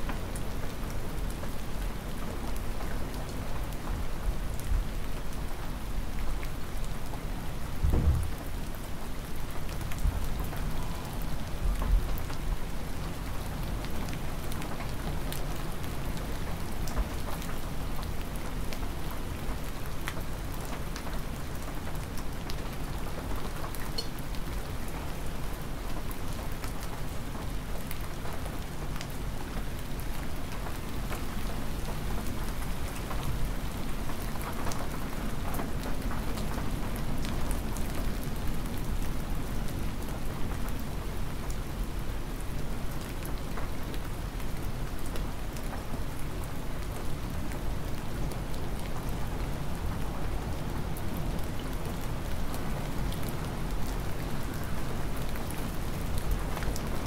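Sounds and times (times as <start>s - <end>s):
hard windy rain: 0.0s - 57.0s.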